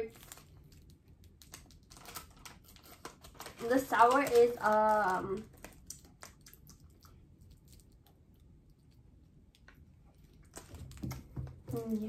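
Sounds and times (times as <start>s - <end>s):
chewing crunchy candy: 0.1s - 10.9s.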